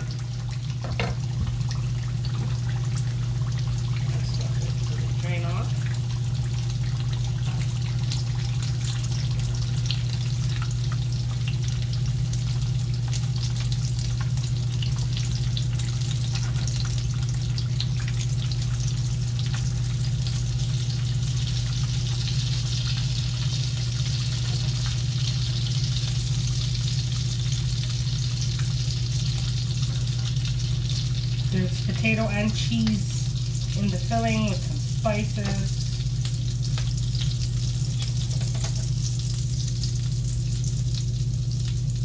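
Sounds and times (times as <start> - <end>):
food frying in hot oil: 0.0 - 42.0
steady low hum: 0.0 - 42.0.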